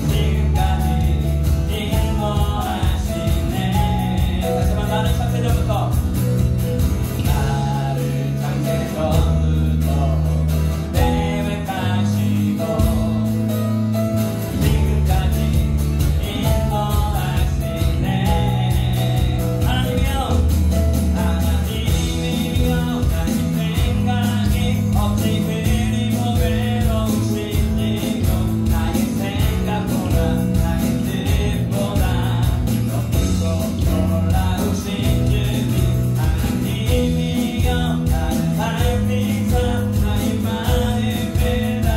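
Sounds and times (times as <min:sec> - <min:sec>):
person singing: 0:00.0 - 0:06.1, 0:07.1 - 0:13.9, 0:14.5 - 0:41.9
drums keeping a steady beat: 0:00.0 - 0:41.9
worship band playing: 0:00.0 - 0:41.9.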